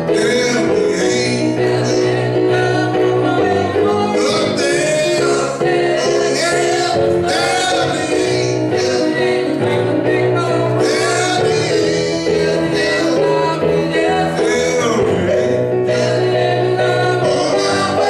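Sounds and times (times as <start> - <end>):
instrumental backing: 0.0 - 18.0
man singing into microphone: 0.0 - 18.0.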